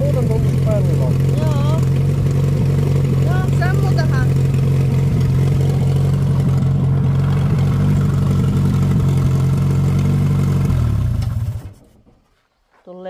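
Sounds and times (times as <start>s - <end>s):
truck engine idling: 0.0s - 12.2s.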